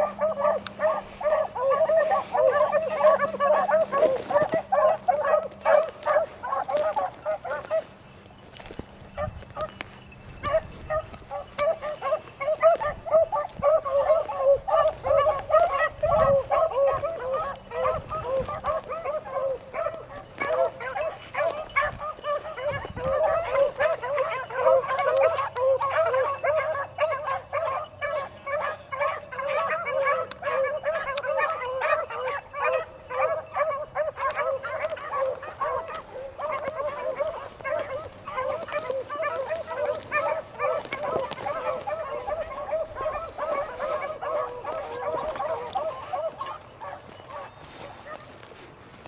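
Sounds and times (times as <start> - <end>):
beagles baying: 0.0 - 49.0.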